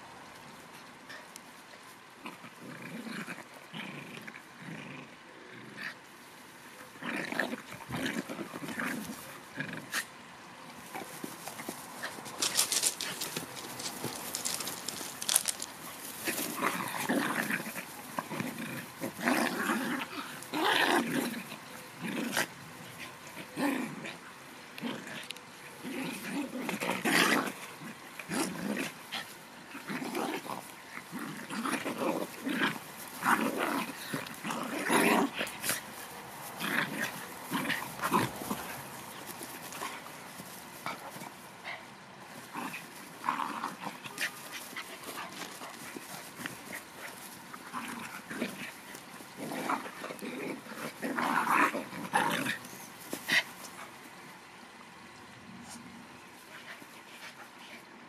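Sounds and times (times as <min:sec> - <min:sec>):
dogs growling: 0:02.2 - 0:06.1, 0:06.8 - 0:53.9.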